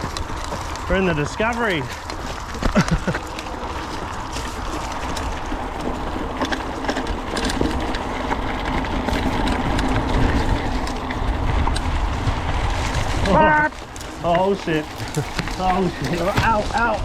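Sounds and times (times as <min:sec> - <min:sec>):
bike rattling and clicking: 0:00.0 - 0:17.0
bike tyre and wind noise: 0:00.0 - 0:17.0
deep rumble: 0:00.0 - 0:17.0.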